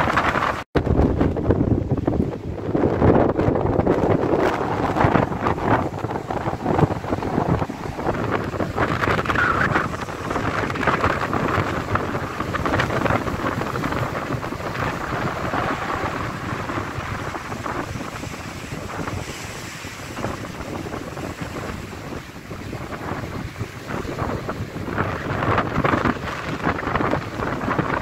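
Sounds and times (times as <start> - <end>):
waves breaking in rough sea: 0.0 - 28.0
wind buffeting microphone: 0.0 - 28.0.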